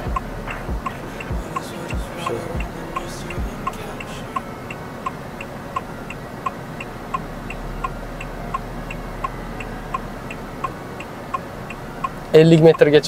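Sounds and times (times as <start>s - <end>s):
hazard indicator ticking: 0.0s - 13.0s.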